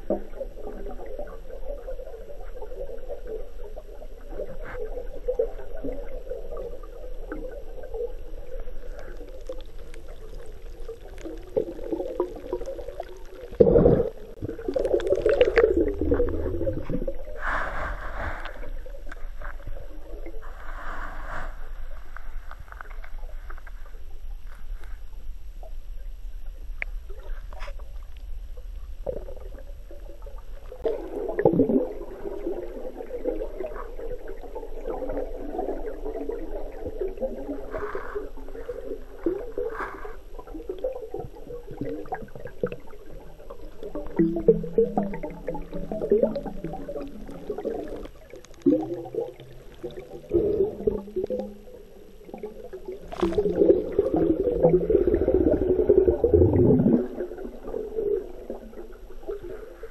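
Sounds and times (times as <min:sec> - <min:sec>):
underwater gurgling and bubbles: 0:00.0 - 0:59.9.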